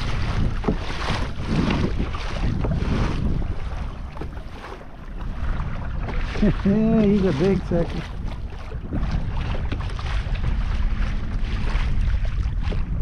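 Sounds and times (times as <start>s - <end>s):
water splashing against kayak hull: 0.0s - 13.0s
wind buffeting microphone: 0.0s - 13.0s.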